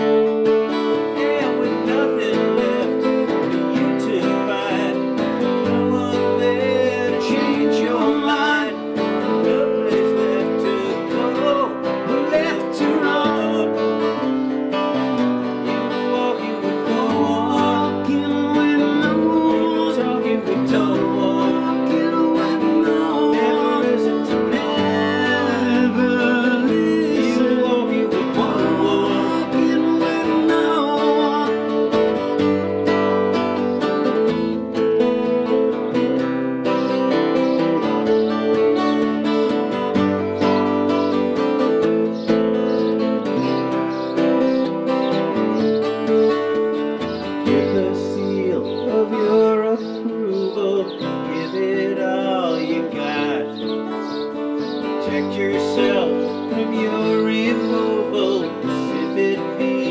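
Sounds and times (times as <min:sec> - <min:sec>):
acoustic guitars strummed and picked: 0:00.0 - 0:59.9.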